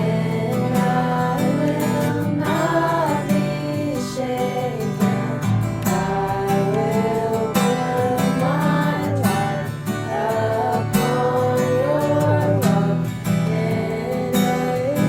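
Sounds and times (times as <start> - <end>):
acoustic guitar worship music: 0.0 - 15.0.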